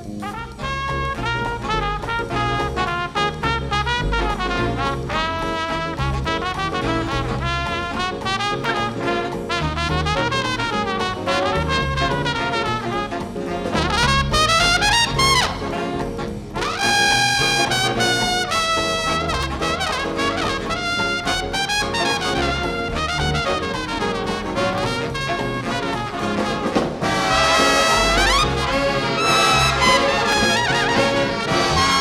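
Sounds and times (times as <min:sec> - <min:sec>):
bass line: 0:00.0 - 0:32.0
brass instrument solo: 0:00.0 - 0:32.0
jazz band playing: 0:00.0 - 0:32.0.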